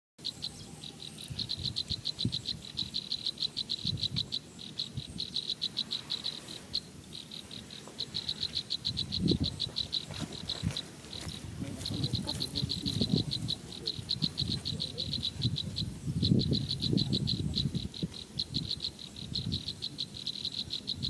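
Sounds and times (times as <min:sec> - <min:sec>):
insect chirping: 0:00.2 - 0:21.0.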